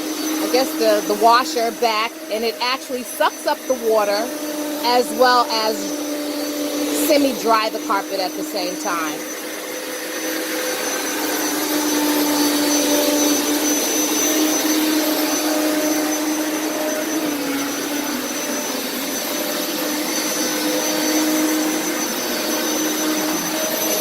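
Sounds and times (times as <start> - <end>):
carpet cleaner motor humming: 0.0 - 24.0.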